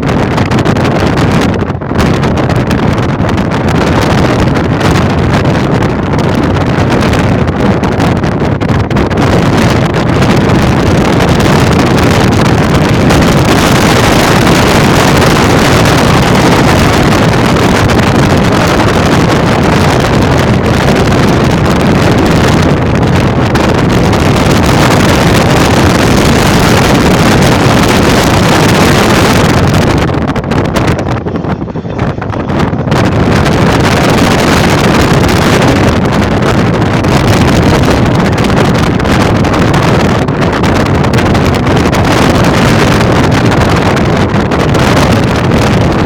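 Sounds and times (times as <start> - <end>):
loud steady rushing noise: 0.0 - 46.0.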